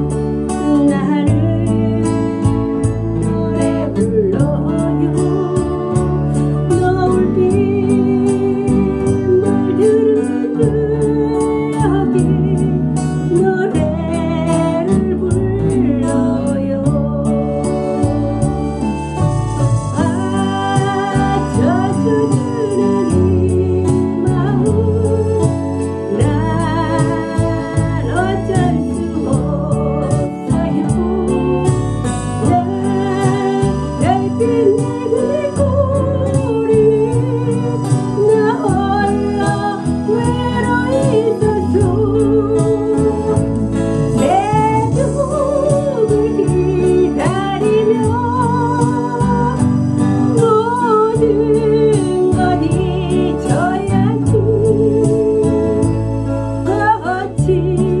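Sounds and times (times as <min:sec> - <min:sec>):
acoustic guitar strumming: 0:00.0 - 0:58.0
backing track with bass: 0:00.0 - 0:58.0
woman singing a ballad: 0:00.0 - 0:58.0.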